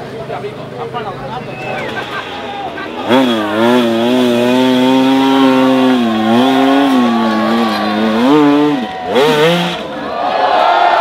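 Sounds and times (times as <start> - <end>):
dirt bike engine revving: 0.9 - 10.1.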